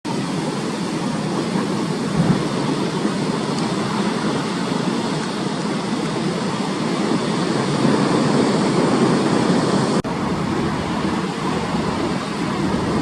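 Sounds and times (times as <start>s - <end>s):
storm waves breaking: 0.1s - 13.0s
strong wind: 0.1s - 13.0s.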